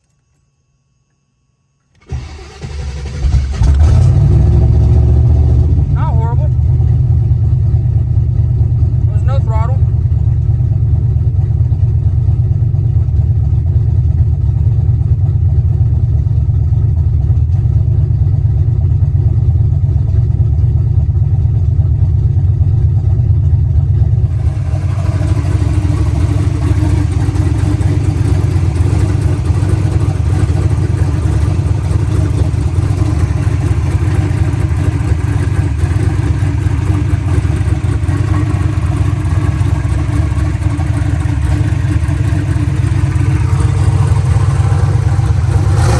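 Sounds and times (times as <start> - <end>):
car engine idling: 2.0 - 45.9.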